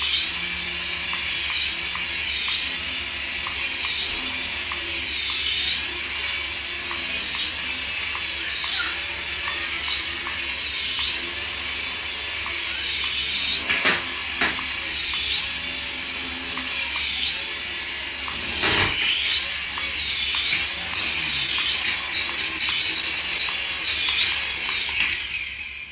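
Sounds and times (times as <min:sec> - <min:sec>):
toy electric motor whining: 0:00.0 - 0:25.9.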